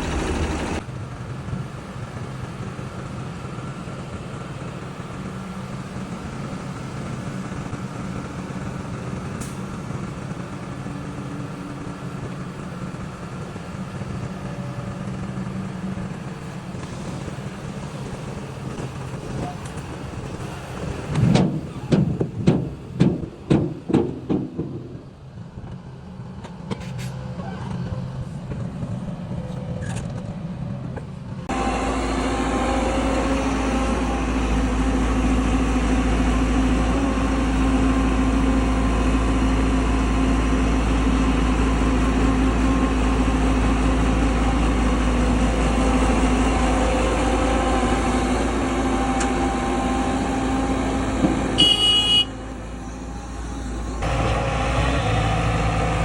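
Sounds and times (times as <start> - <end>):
heavy machine engine running: 0.0 - 56.0.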